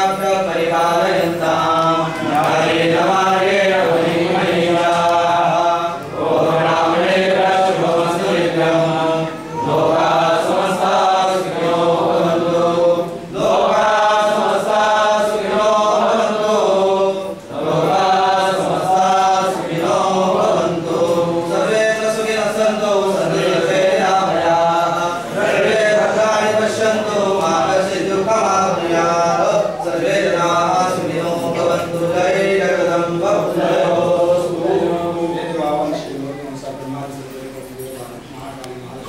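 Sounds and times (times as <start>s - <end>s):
voices chanting in unison: 0.0s - 36.1s.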